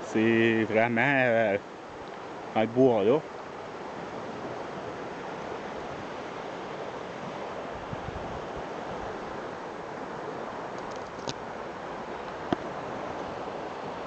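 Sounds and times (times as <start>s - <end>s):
river rapids roaring: 0.0s - 14.0s
wind gusts on microphone: 2.2s - 14.0s.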